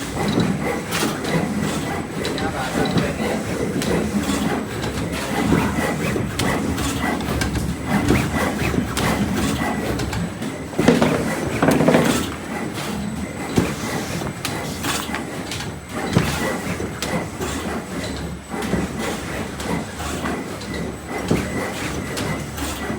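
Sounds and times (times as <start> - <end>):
plotter machines clattering: 0.0 - 22.9.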